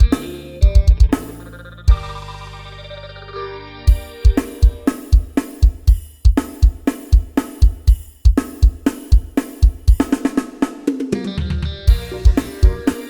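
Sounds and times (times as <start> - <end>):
drum kit fast beat: 0.0 - 2.7, 3.9 - 13.0
pitched backing instruments: 0.0 - 13.0.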